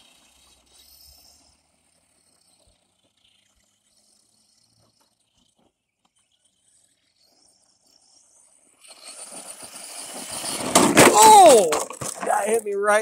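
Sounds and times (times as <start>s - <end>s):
rc truck spinning on dirt: 0.0s - 13.0s.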